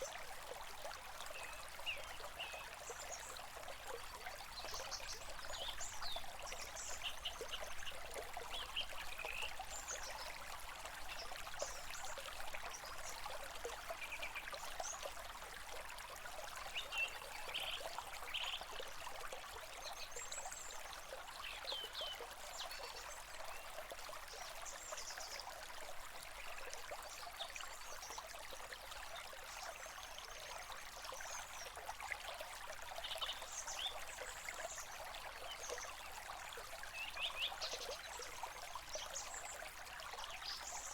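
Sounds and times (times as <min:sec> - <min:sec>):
stream trickling and splashing: 0:00.0 - 0:40.9.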